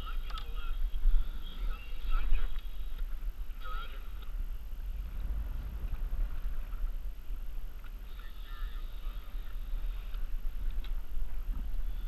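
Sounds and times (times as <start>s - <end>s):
water sloshing around kayak: 0.0s - 12.0s
wind rumbling on microphone: 0.0s - 12.0s.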